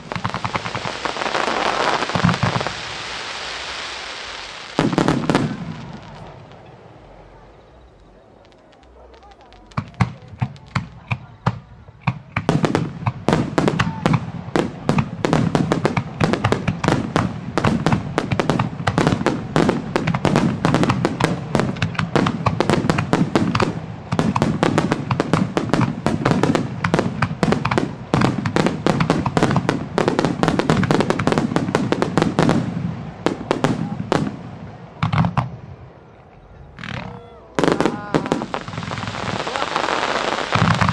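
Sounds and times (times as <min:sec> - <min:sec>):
firework crackles: 0:00.0 - 0:40.9
fireworks bursting: 0:00.0 - 0:40.9.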